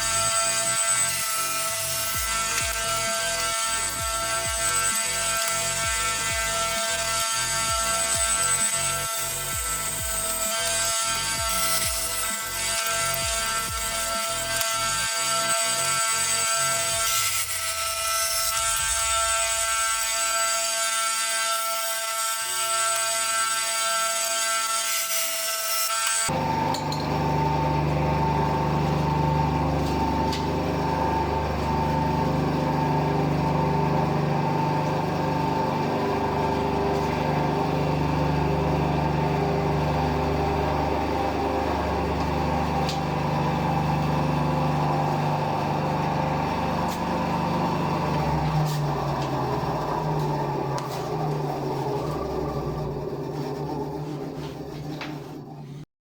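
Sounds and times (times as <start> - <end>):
bandsaw cutting wood: 0.0 - 55.9.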